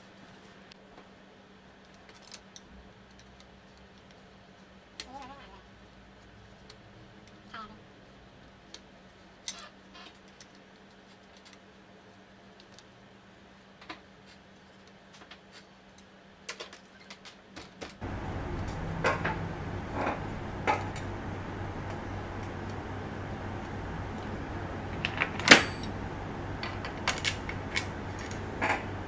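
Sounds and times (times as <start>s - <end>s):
steady hum and hiss: 0.0s - 29.0s.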